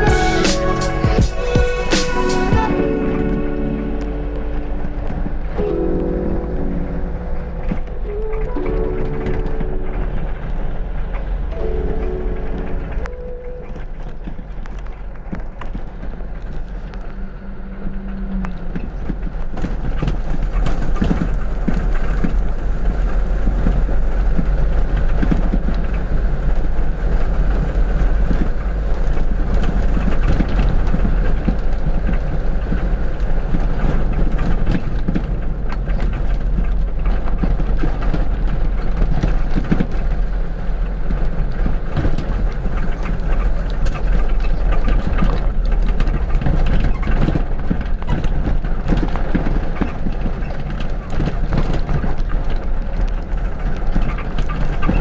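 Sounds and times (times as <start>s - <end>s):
vehicle engine and tyres rumbling: 2.7s - 55.0s.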